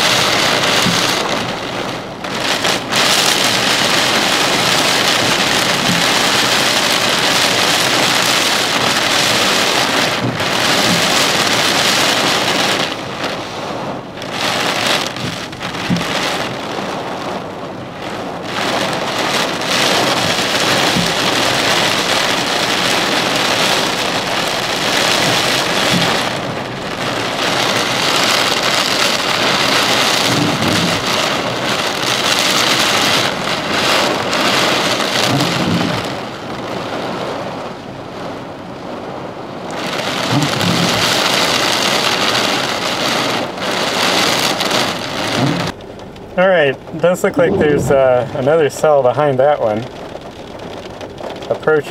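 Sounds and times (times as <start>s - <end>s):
heavy rain hiss: 0.0s - 51.9s.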